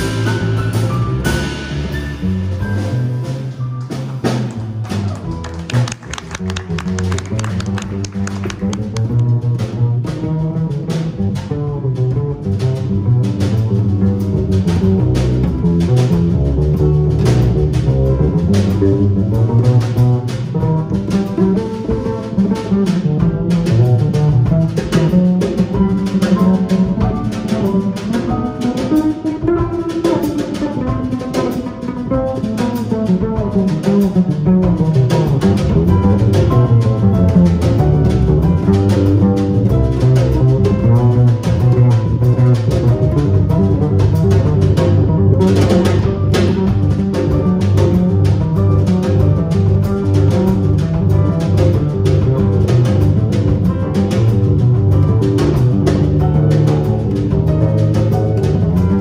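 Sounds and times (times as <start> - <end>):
drums: 0.0 - 59.0
piano: 0.0 - 59.0
upright double bass: 0.0 - 59.0.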